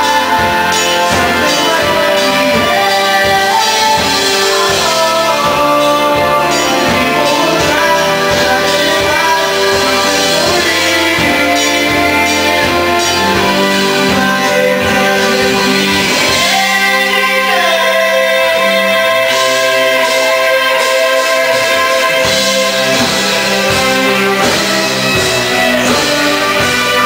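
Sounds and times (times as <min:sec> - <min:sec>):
drum kit beat: 0:00.0 - 0:27.0
electric guitars: 0:00.0 - 0:27.0
keyboards: 0:00.0 - 0:27.0
male lead vocal: 0:00.0 - 0:27.0.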